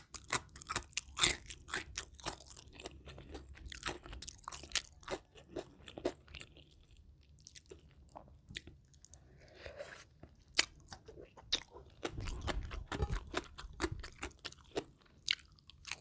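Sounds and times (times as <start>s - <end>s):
crunching and chewing fried food: 0.0s - 16.0s.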